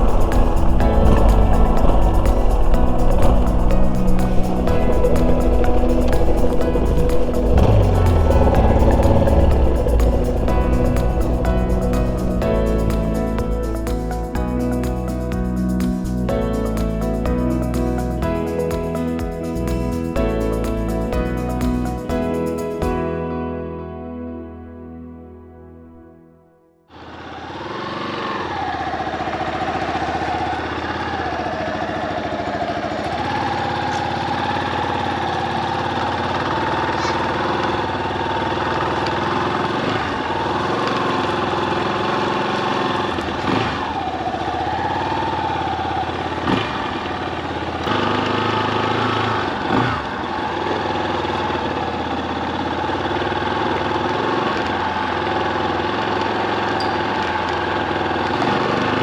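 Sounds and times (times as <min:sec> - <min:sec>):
motorcycle engine revving: 0:00.0 - 0:22.0, 0:26.9 - 0:59.0.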